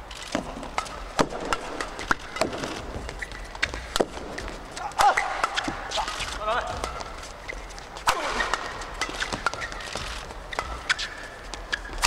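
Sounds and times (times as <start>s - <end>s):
shoes squeaking on court: 0.0s - 12.0s
racket hitting shuttlecock: 0.2s - 12.0s.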